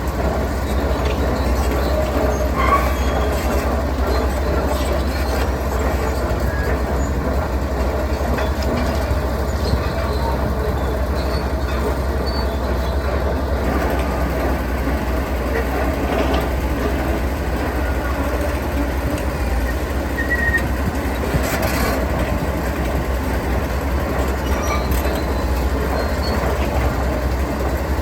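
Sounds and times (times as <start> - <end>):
heavy diesel machinery rumbling: 0.0 - 28.0.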